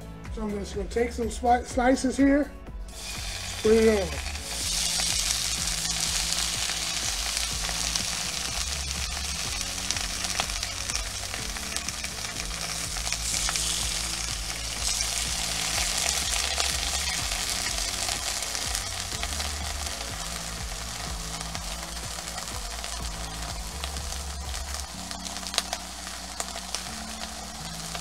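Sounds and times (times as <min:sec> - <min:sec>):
bacon sizzling in a skillet: 0:02.9 - 0:28.0.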